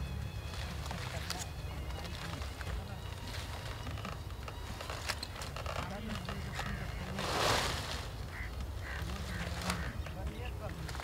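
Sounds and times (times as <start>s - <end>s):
cauliflower leaves rustling: 0.0s - 11.0s
faint voices: 0.0s - 11.0s.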